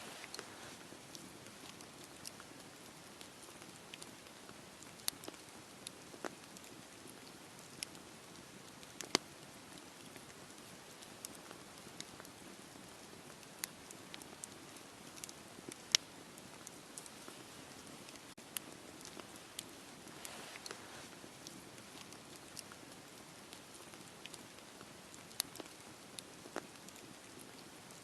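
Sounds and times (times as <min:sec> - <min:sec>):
fire crackles and pops: 0:00.0 - 0:28.0
wood fire hissing: 0:00.0 - 0:28.0.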